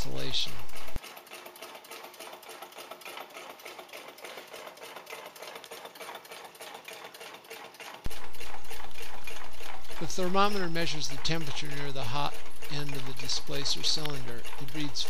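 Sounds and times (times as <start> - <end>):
engine rhythmic mechanical clatter: 0.0 - 15.0.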